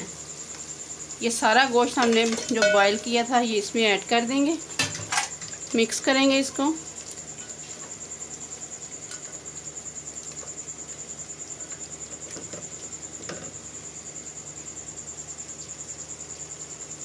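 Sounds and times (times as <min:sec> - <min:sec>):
high pulsing insect trill: 0:00.0 - 0:17.0.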